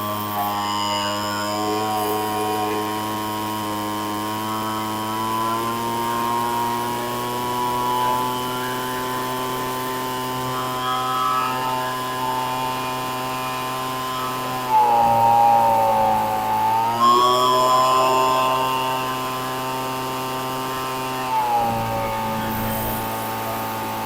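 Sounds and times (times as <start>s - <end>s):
leaf blower engine running: 0.0s - 24.0s.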